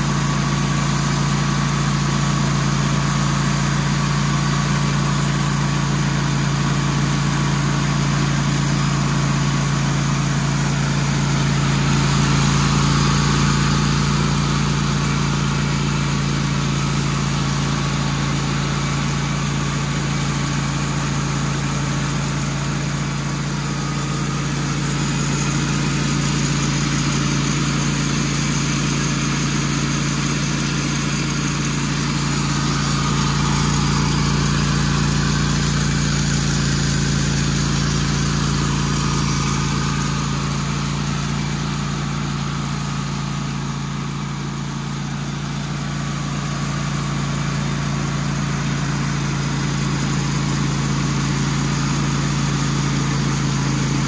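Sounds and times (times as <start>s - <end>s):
sawmill engine under load: 0.0s - 54.0s.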